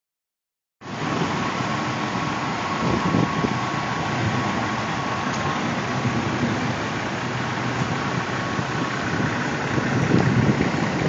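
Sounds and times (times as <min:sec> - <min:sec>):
diesel truck engines idling: 0:00.8 - 0:11.0.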